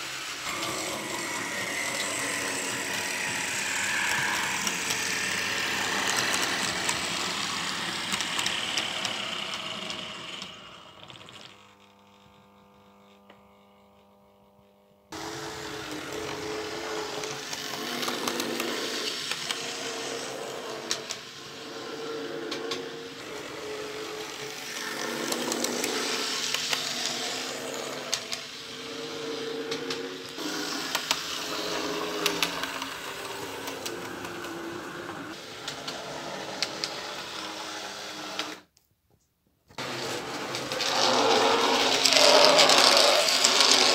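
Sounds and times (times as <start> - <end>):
model train motor whirring: 0.0 - 14.1, 15.1 - 38.7, 39.8 - 43.9.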